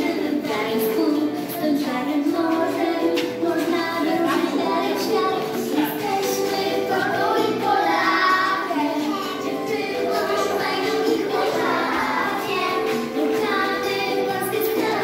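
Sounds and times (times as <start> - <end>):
children singing: 0.0 - 15.0
musical accompaniment: 0.0 - 15.0.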